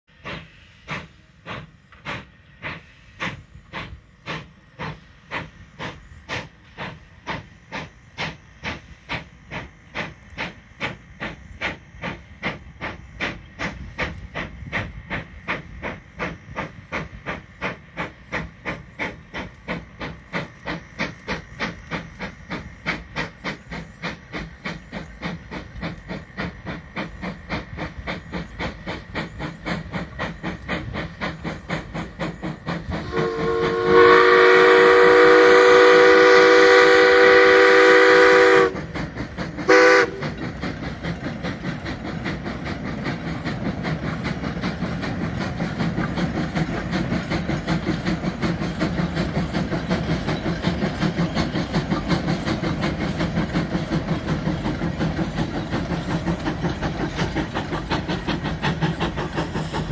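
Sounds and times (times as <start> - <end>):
steam hissing: 0.1 - 59.9
steam locomotive chuffing: 0.1 - 59.9.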